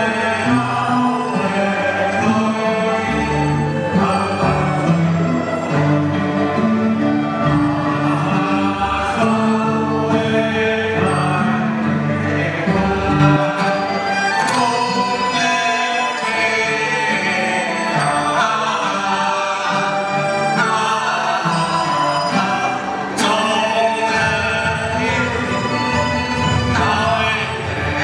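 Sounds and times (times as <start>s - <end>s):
bowed and plucked string ensemble: 0.0s - 28.0s.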